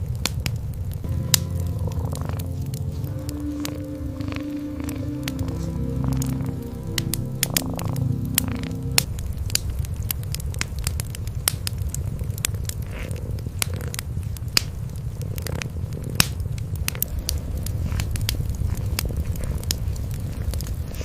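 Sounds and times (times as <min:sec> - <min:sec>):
wood fire crackling and popping: 0:00.0 - 0:21.0
cats purring: 0:01.4 - 0:09.6, 0:11.4 - 0:21.0.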